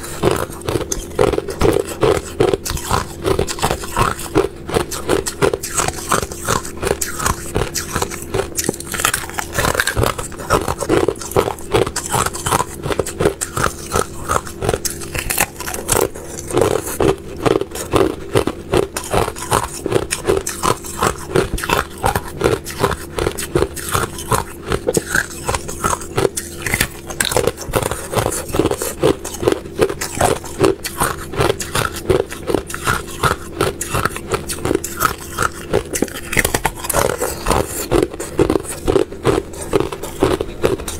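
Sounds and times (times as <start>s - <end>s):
ice crunching being chewed: 0.0s - 40.9s
steady hum: 0.0s - 40.9s.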